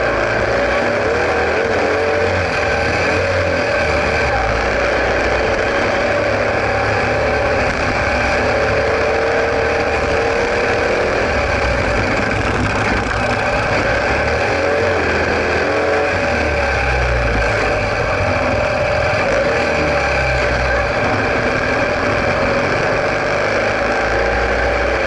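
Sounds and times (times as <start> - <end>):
motorcycle engine under load: 0.0 - 25.0
wind and road noise: 0.0 - 25.0.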